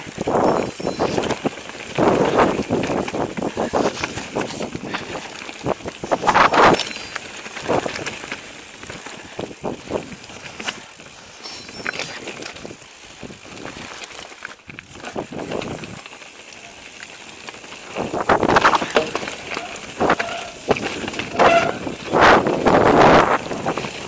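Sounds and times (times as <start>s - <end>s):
bike knocking and rattling on rocks: 0.0s - 24.0s
bike tyres crunching on stones: 0.0s - 24.0s.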